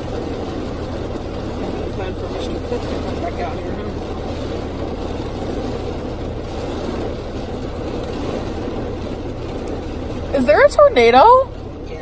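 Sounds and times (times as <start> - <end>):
low hum: 0.0 - 12.0
road and wind noise in car: 0.0 - 12.0.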